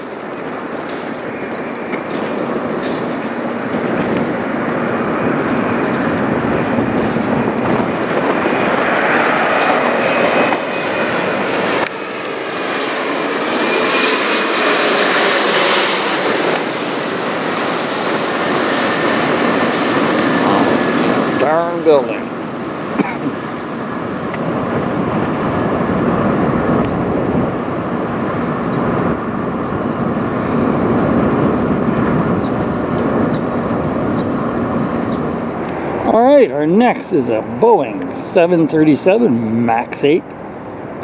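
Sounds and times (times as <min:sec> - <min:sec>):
high engine whine: 0:00.0 - 0:41.0
jet flying over: 0:00.0 - 0:41.0.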